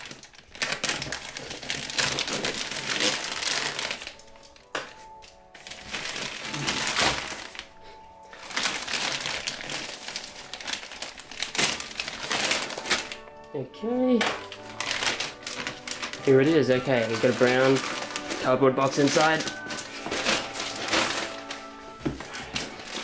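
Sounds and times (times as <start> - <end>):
plastic satchel ripped open: 0.0 - 4.2, 5.7 - 7.7, 8.4 - 13.2, 14.2 - 21.7.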